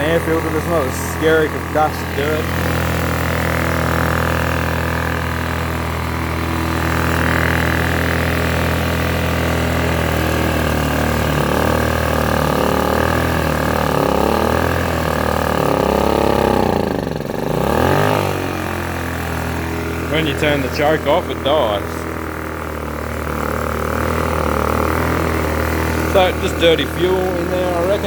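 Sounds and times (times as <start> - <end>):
generator engine surging: 0.0 - 28.0.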